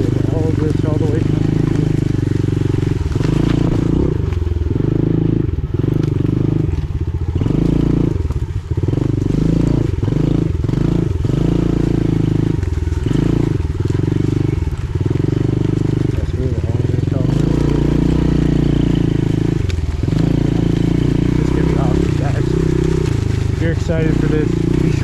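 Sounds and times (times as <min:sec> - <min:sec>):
small motorbike engine revving: 0:00.0 - 0:25.0.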